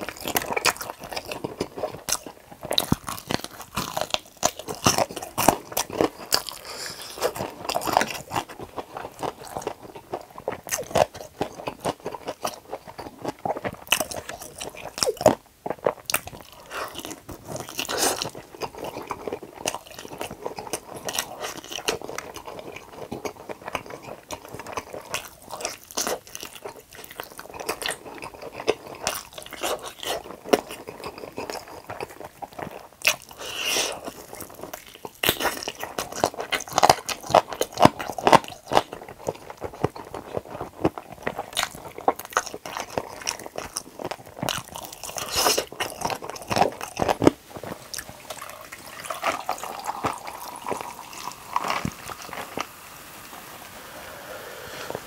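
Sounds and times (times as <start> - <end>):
crunchy biting and chewing: 0.0 - 52.8.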